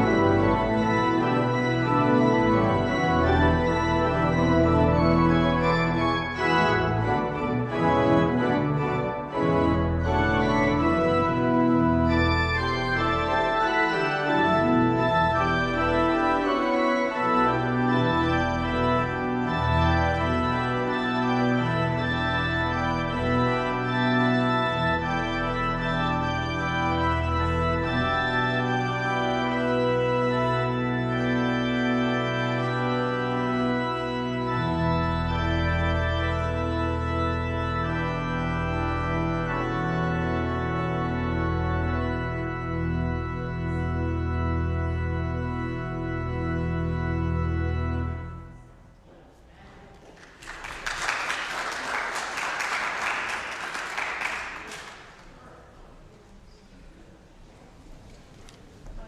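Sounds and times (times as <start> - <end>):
organ music: 0.0 - 49.0, 50.4 - 55.5.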